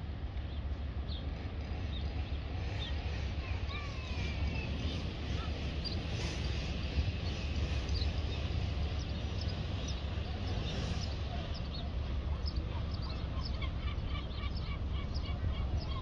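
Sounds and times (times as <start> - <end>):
steady low rumble: 0.0 - 16.0
birds chirping: 0.4 - 16.0.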